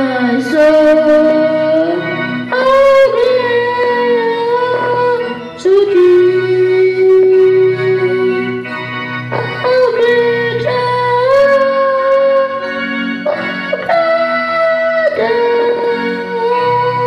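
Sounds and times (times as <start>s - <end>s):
boy singing long notes: 0.0s - 8.7s, 9.4s - 17.0s
electronic keyboard accompaniment: 0.0s - 17.0s.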